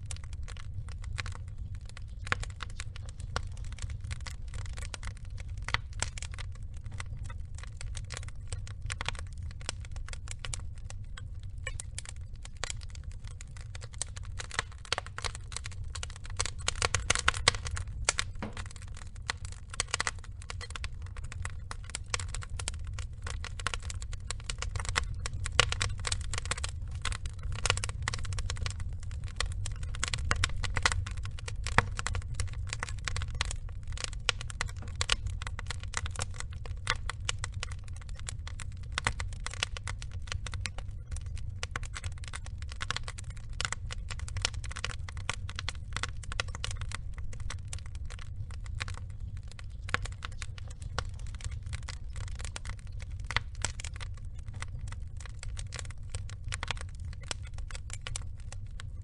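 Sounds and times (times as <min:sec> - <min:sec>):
logs crackling and popping: 0:00.0 - 0:59.0
low fire rumble: 0:00.0 - 0:59.0.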